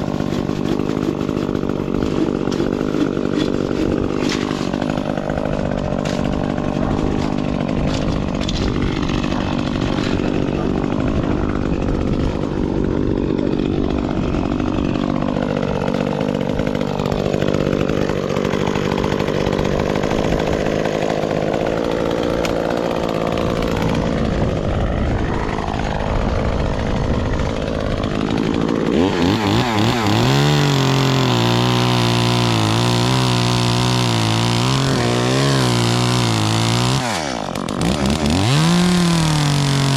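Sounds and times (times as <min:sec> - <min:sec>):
chainsaw engine cutting: 0:00.0 - 0:39.9.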